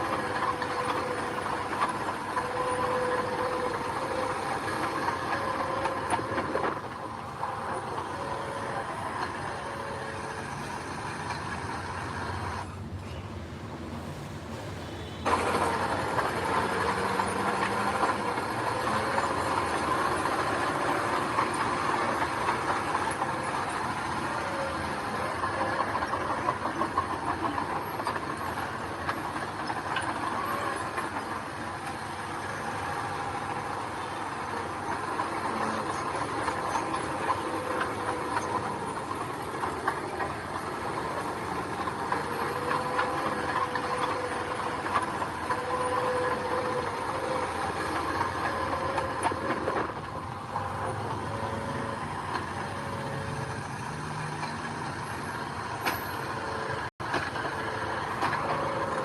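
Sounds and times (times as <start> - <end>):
diesel machinery running: 0.0 - 59.0.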